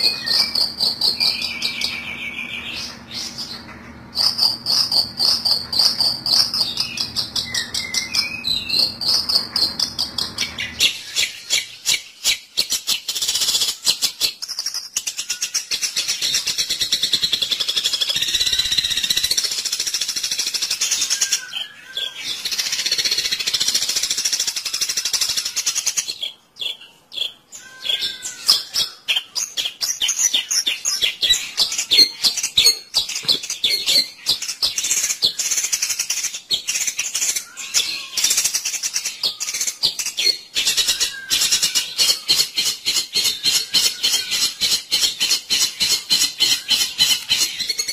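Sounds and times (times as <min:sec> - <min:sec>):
harsh bird chattering and trilling: 0:00.0 - 0:47.9.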